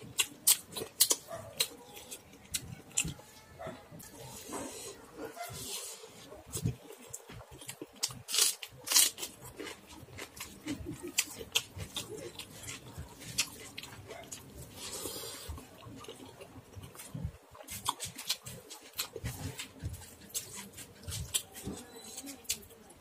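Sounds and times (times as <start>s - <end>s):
wet chewing and lip smacks: 0.0s - 3.2s, 6.5s - 22.8s.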